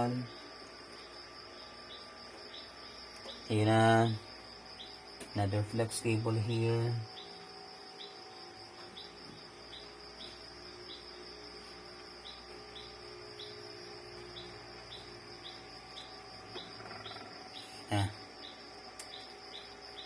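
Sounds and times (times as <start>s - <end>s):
bird chirping: 0.0s - 20.0s
steady high-pitched hum: 0.0s - 20.0s.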